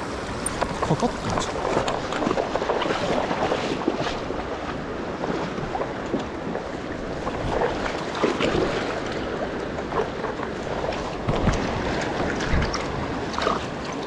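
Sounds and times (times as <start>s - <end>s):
river rushing and splashing: 0.0s - 14.0s.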